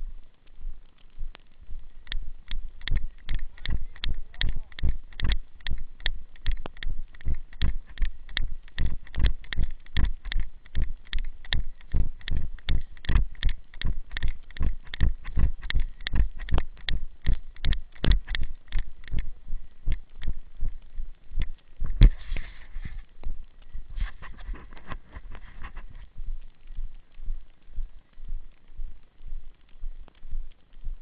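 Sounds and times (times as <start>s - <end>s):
footsteps on dirt trail: 0.0s - 31.0s.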